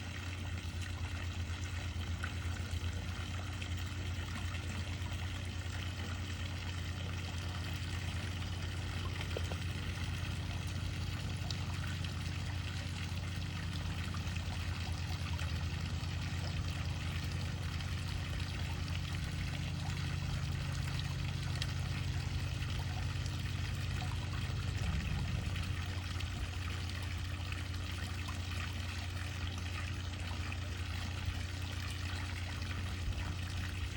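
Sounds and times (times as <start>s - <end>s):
fountain water splashing into pool: 0.0s - 33.9s
steady low hum: 0.0s - 33.9s.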